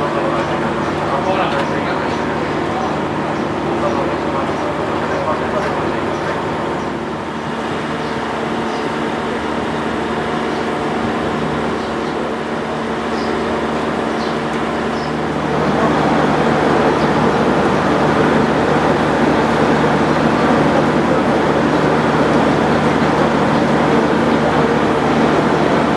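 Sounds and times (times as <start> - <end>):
diesel railcar engines idling: 0.0 - 25.9.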